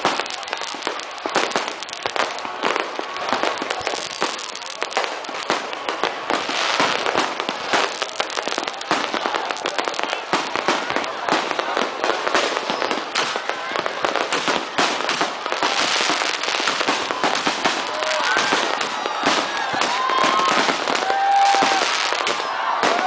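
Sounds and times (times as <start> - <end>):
fireworks banging and crackling: 0.0 - 23.0.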